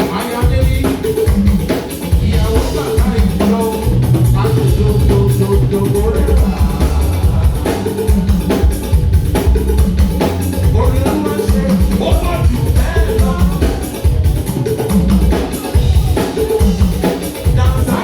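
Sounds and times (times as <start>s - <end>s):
heavy drum beat: 0.0s - 18.0s
live church band music: 0.0s - 18.0s
voices singing: 0.0s - 18.0s.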